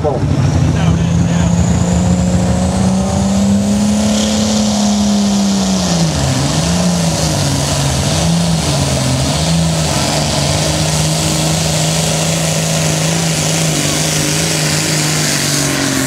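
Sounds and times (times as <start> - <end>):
tractor engine lugging: 0.0 - 16.0.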